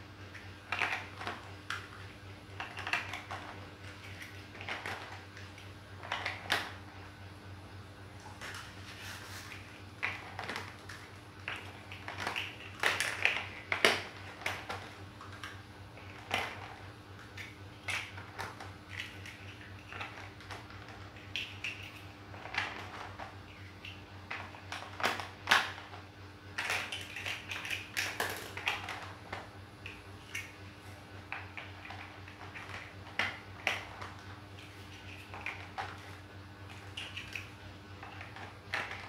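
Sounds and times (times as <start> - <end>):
steady low hum: 0.0 - 39.0
plastic bricks clicking and clattering: 0.3 - 6.8, 10.0 - 26.0, 26.6 - 30.5, 31.3 - 39.0.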